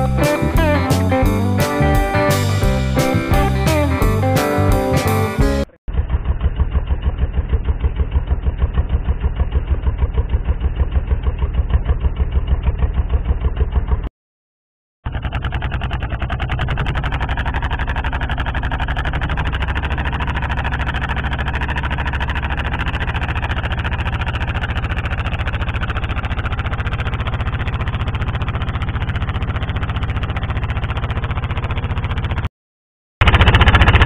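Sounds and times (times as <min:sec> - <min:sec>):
boat engine throbbing: 0:00.0 - 0:14.1, 0:15.0 - 0:32.4, 0:33.2 - 0:34.0.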